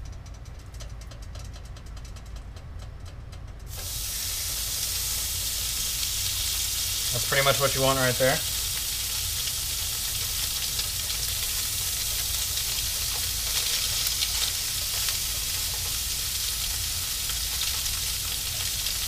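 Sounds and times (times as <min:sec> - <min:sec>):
fish sizzling in a frying pan: 0:03.7 - 0:19.0.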